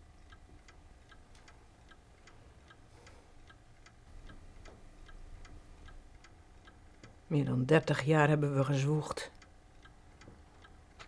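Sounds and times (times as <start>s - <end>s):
low room hum: 0.0s - 11.0s
mechanical clock ticking: 0.0s - 11.0s.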